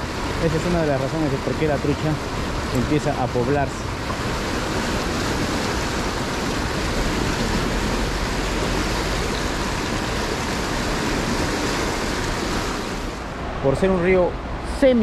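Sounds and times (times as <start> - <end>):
river rushing over rocks: 0.0 - 14.1.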